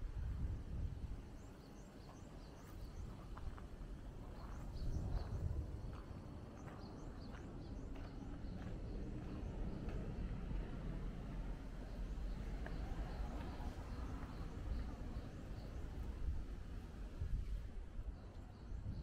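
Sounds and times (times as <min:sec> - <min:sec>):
low outdoor rumble: 0:00.0 - 0:19.0
small birds chirping: 0:00.8 - 0:10.7, 0:11.8 - 0:19.0.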